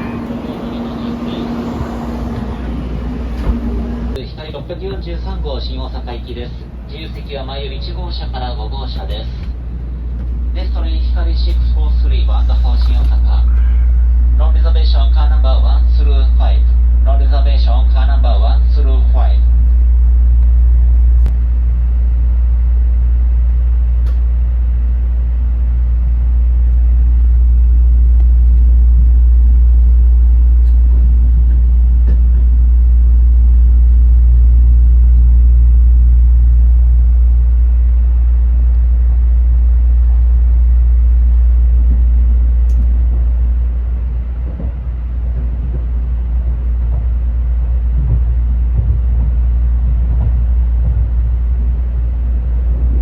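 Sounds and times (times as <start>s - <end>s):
low train running rumble: 0.0s - 53.0s.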